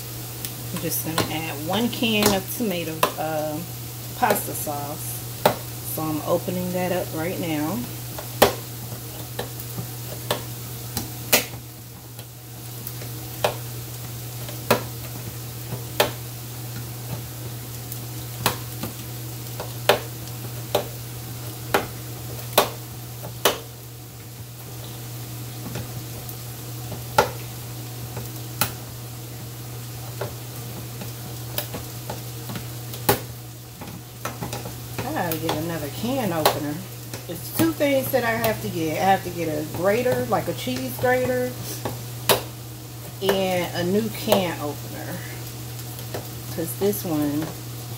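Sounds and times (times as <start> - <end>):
sauce sizzling in a pan: 0.0 - 47.9.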